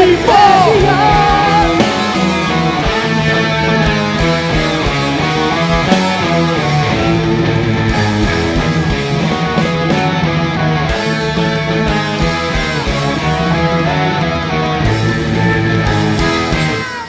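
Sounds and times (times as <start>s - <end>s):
lead guitar: 0.0s - 17.0s
live band playing: 0.0s - 17.0s.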